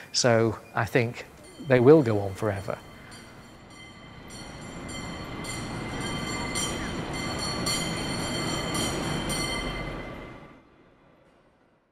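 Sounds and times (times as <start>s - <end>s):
thin whining tones: 0.0s - 10.6s
tram rumbling on rails: 0.0s - 11.8s.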